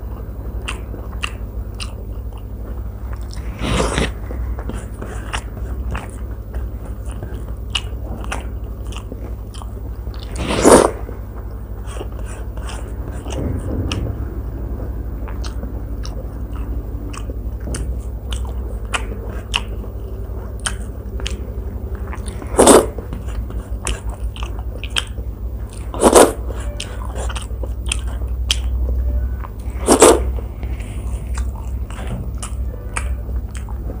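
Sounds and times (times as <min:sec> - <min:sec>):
steady low hum: 0:00.0 - 0:34.0
chewing and mouth clicks: 0:00.1 - 0:14.0, 0:15.3 - 0:28.8, 0:29.4 - 0:34.0.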